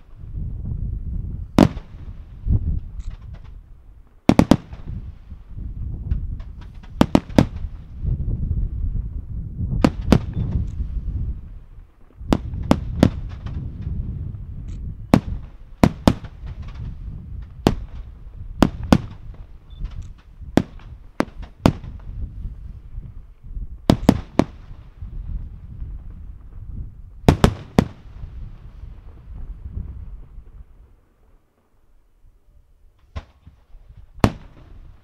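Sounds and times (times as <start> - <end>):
low rumble of booms: 0.0 - 31.0
fireworks cracking: 1.4 - 9.0, 9.6 - 31.8, 33.0 - 35.0.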